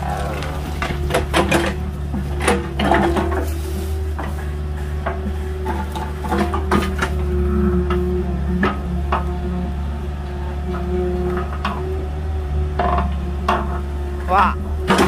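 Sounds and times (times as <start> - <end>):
excavator bucket clanks and knocks: 0.0 - 9.6, 10.6 - 15.0
excavator engine running: 0.0 - 15.0.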